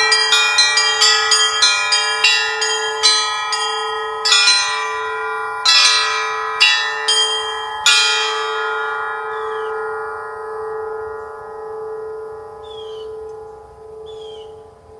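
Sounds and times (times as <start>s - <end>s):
church bells ringing: 0.0s - 14.9s
deep bell hum: 0.0s - 14.9s.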